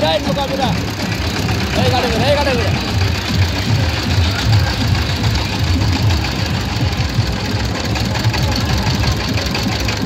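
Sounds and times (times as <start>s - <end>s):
boat engine chugging: 0.0s - 10.0s.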